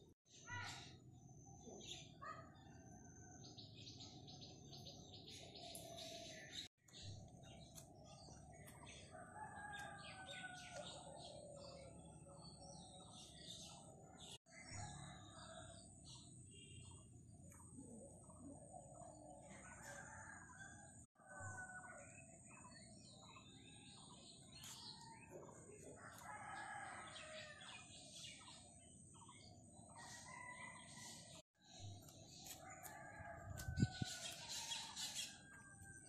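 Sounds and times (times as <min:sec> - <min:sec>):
birds chirping and calling: 0:03.6 - 0:20.8, 0:21.7 - 0:36.0.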